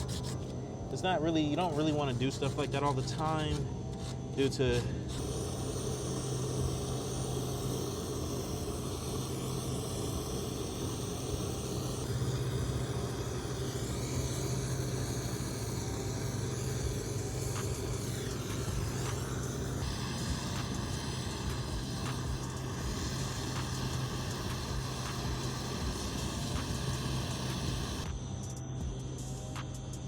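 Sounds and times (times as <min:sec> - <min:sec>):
engine droning: 0:00.0 - 0:28.2.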